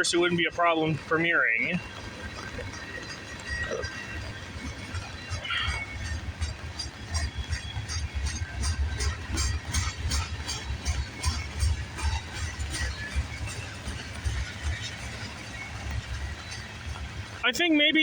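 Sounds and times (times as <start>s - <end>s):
rumble of train wheels on rail: 0.0s - 18.0s
wheels clicking over rail joints: 0.0s - 18.0s.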